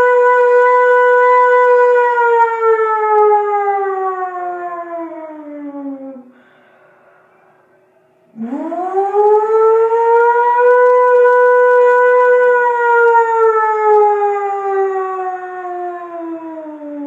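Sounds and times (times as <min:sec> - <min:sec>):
boy imitating a siren wail: 0:00.0 - 0:06.4, 0:08.4 - 0:17.0.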